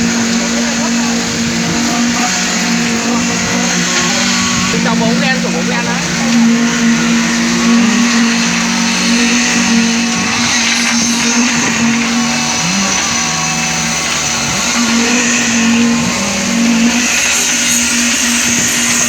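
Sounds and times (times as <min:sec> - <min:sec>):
motor whining hum: 0:00.0 - 0:19.0.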